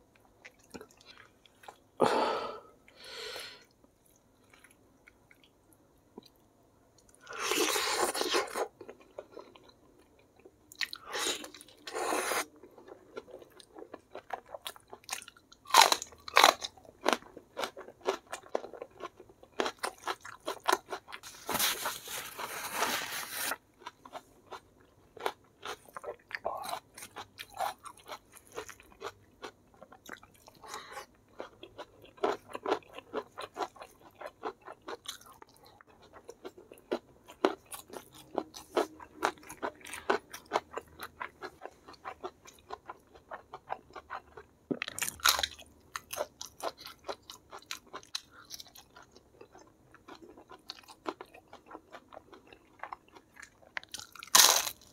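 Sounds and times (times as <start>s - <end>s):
crunchy chewing: 7.0s - 54.9s.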